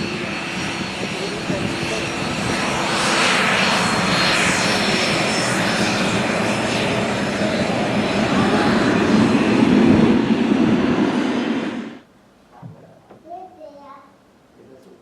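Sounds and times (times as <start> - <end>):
airliner engines running loud: 0.0 - 12.0.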